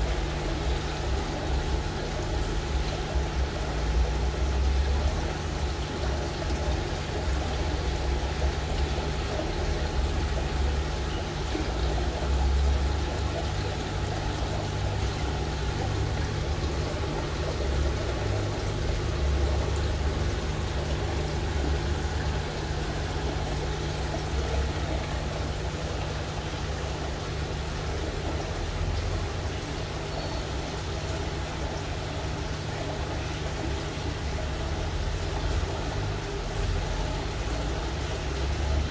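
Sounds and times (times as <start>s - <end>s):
aquarium air pump hum: 0.0s - 38.9s
water circulation rushing: 0.0s - 38.9s.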